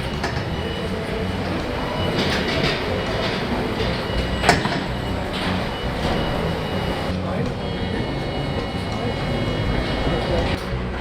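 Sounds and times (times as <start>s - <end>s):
factory machinery rumble: 0.0s - 11.0s.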